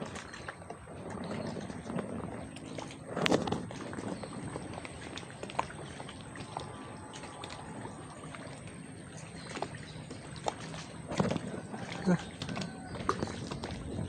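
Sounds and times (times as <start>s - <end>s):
small waves lapping: 0.0s - 14.0s.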